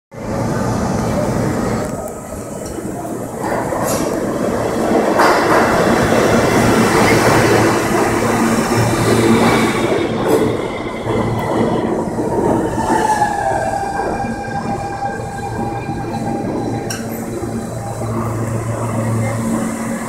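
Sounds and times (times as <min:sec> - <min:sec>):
train rumbling on rails: 0:00.1 - 0:20.0.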